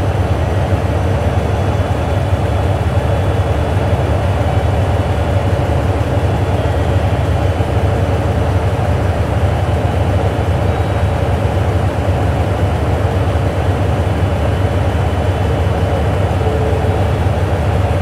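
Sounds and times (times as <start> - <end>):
electric train hum: 0.0 - 18.0
electric train rumbling: 0.0 - 18.0.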